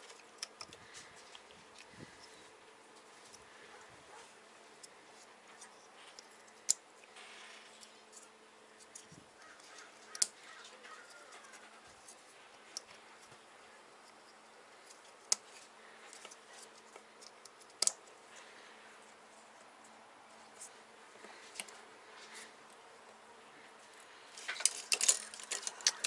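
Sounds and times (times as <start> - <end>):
faint steady hum: 0.0 - 26.0
wiring harness rustling: 0.0 - 26.0.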